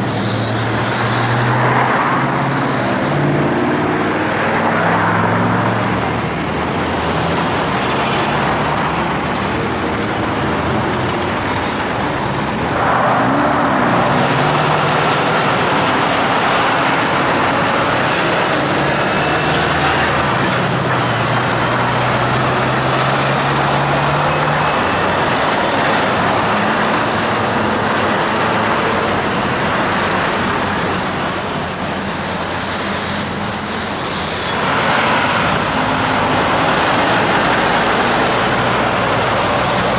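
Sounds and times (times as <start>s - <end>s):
highway traffic passing: 0.0s - 39.9s
truck passing: 0.0s - 39.9s.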